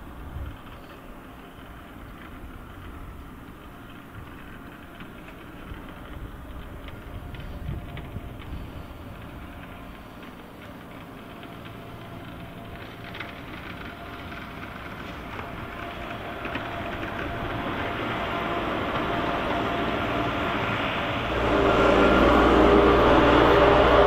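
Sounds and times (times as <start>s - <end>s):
diesel engine running: 0.1s - 24.0s.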